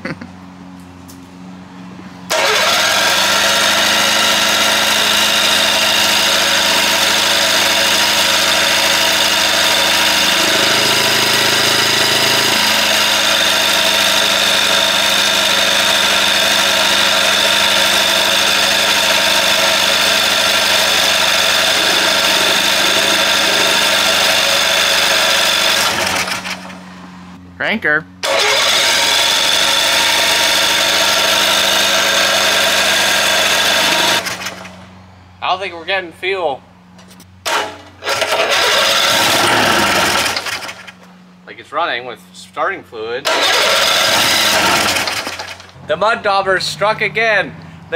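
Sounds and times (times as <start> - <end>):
two-stroke airplane engine running: 0.0 - 35.1, 37.4 - 41.4, 43.2 - 47.9.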